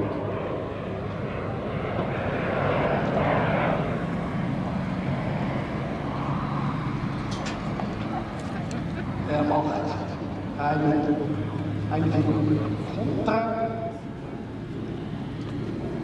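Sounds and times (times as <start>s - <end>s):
propeller aircraft in flight: 0.0s - 16.0s.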